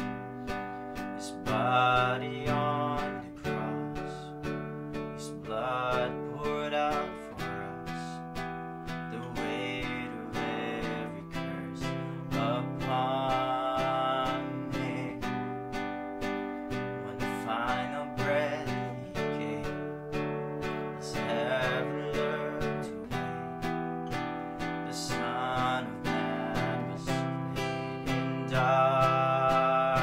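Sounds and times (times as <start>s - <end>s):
man singing: 0.0s - 30.0s
strummed acoustic guitar: 0.0s - 30.0s.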